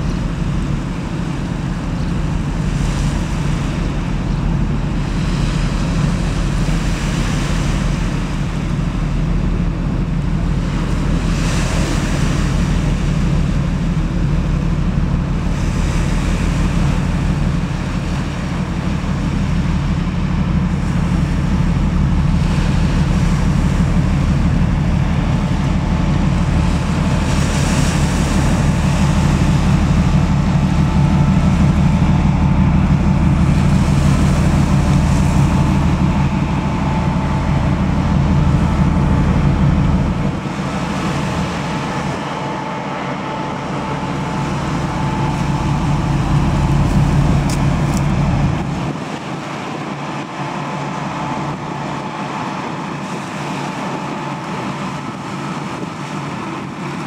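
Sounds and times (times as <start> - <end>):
ship diesel engine droning: 0.0 - 57.0.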